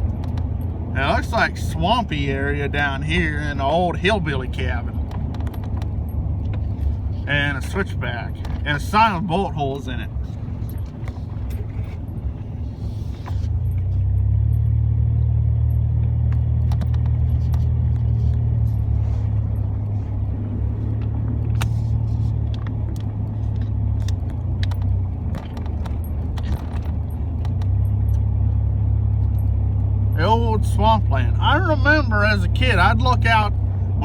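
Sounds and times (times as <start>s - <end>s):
truck engine and road drone: 0.0s - 34.0s.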